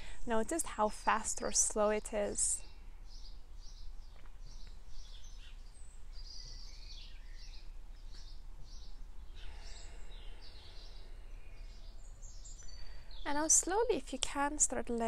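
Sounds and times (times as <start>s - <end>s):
birds singing: 0.4s - 15.0s.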